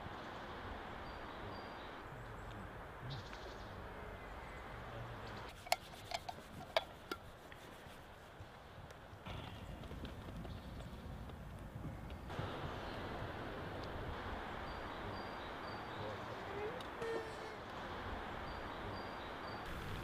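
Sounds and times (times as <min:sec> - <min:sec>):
low outdoor ambience: 0:00.0 - 0:20.0.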